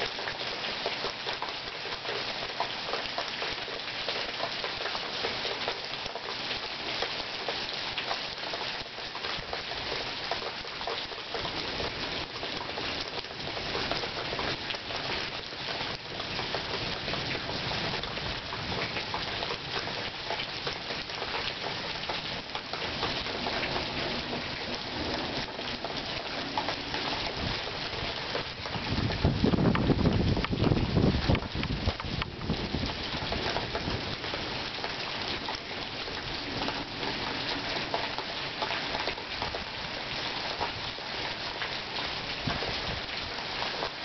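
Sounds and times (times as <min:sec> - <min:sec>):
raindrops ticking: 0:00.0 - 0:44.0
steady rain hiss: 0:00.0 - 0:44.0.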